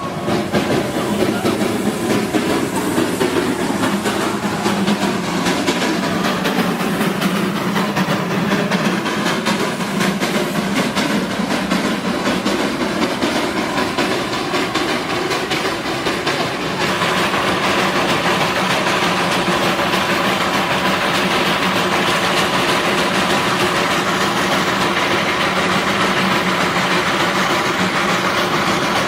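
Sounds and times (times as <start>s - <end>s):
train running rush: 0.0s - 29.0s
train wheels clattering on rails: 0.0s - 29.0s.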